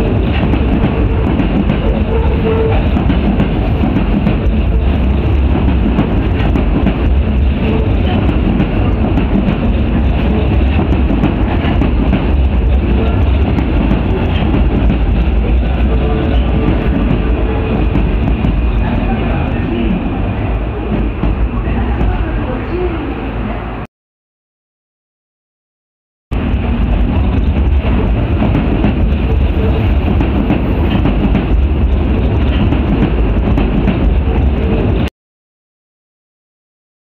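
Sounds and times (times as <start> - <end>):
subway train wheels rumbling: 0.0 - 23.9, 26.3 - 35.1.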